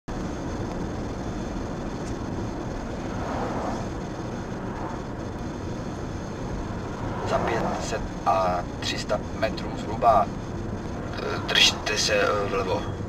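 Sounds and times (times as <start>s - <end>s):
car cabin road and engine noise: 0.1s - 13.0s
tyres on wet road: 0.1s - 13.0s.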